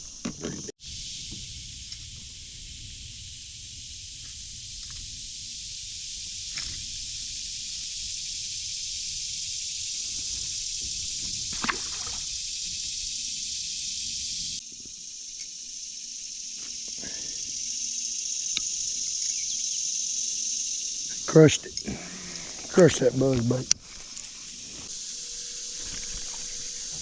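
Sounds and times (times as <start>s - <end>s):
creek water hissing: 0.0s - 27.0s.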